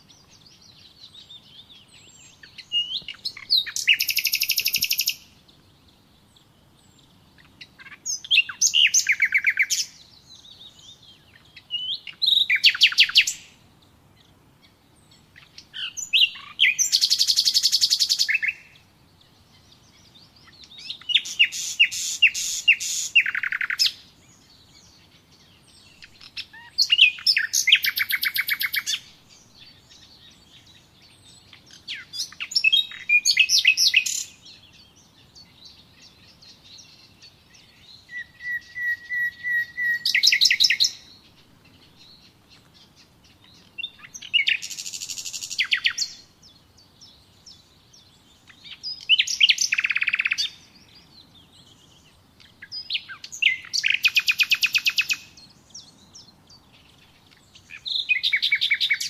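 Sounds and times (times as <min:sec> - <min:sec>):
songbird singing with trill: 0:00.0 - 0:59.0.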